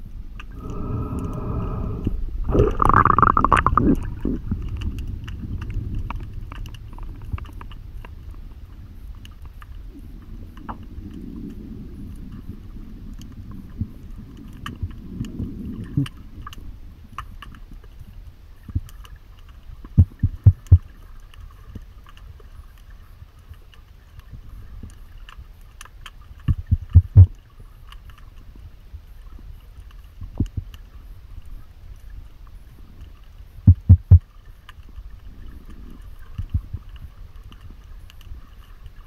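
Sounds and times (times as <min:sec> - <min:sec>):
low underwater rumble: 0:00.0 - 0:22.6, 0:26.2 - 0:39.0
faint underwater clicks: 0:00.0 - 0:39.0.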